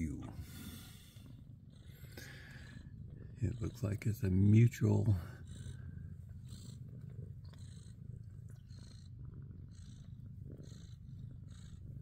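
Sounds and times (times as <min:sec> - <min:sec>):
cats purring: 0:00.0 - 0:12.0.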